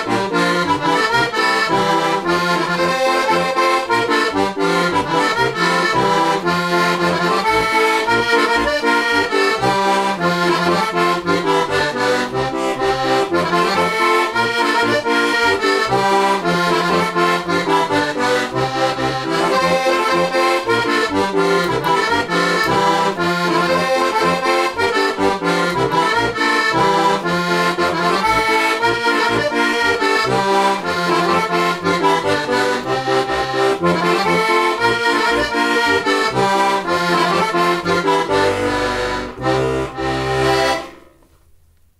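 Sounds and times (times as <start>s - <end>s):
button accordion playing folk tune: 0.0s - 41.2s.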